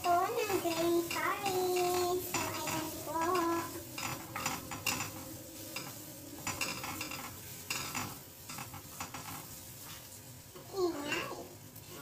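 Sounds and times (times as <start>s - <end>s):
spatula scraping frying pan: 0.0s - 11.5s
paste sizzling in oil: 0.0s - 12.0s.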